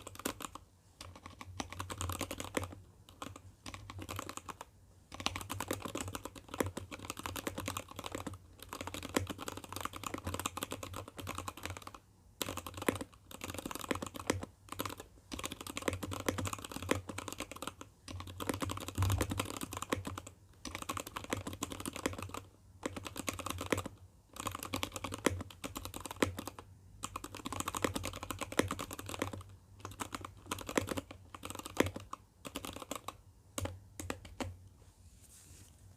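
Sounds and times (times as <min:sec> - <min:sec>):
mechanical keyboard typing: 0:00.0 - 0:34.6.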